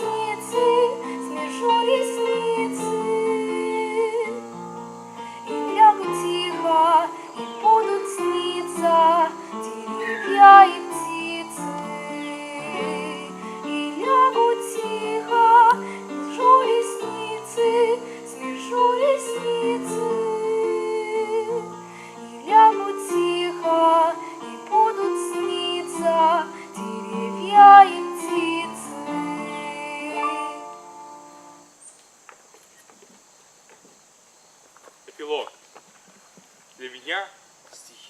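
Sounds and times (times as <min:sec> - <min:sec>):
woman singing with vibrato: 0:00.0 - 0:04.6, 0:05.3 - 0:31.6
instrumental accompaniment: 0:00.0 - 0:31.7.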